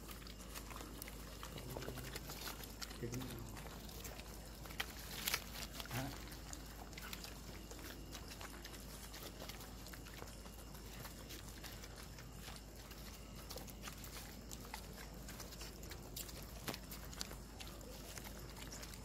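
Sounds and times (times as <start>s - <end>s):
dogs chewing and crunching: 0.0s - 19.0s.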